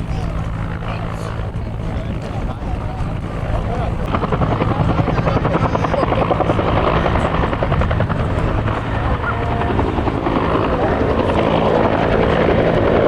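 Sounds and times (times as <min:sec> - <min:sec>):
helicopter rotor beating: 0:00.0 - 0:13.0
turbine hum: 0:00.0 - 0:13.0.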